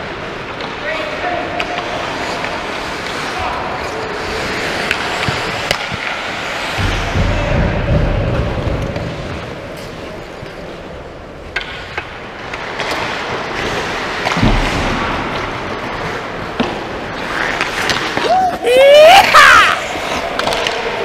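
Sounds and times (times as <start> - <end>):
hockey sticks and puck clacking: 0.0 - 21.0
skates scraping on ice: 0.0 - 21.0.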